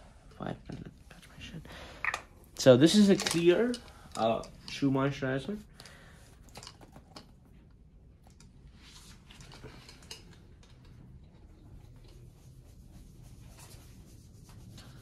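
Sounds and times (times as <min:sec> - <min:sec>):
low room hiss: 0:00.0 - 0:15.0
faint clicks and handling noises: 0:00.3 - 0:12.8.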